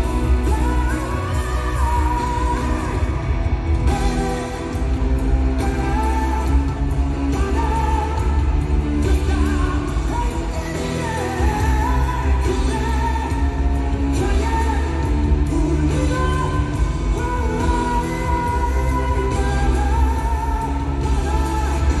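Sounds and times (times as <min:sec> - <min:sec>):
heavy drums: 0:00.0 - 0:22.0
man singing lead vocal: 0:00.0 - 0:22.0
rock band playing: 0:00.0 - 0:22.0.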